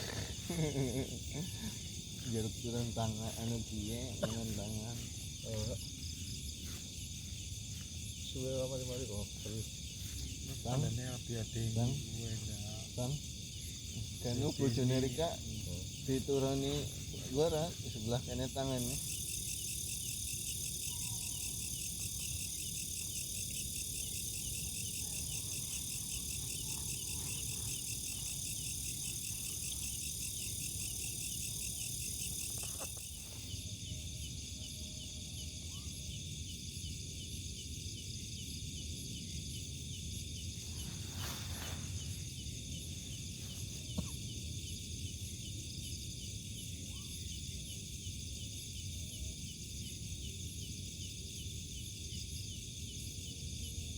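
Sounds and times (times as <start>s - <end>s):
crickets chirping: 0.0s - 53.9s
insects trilling: 0.0s - 53.9s.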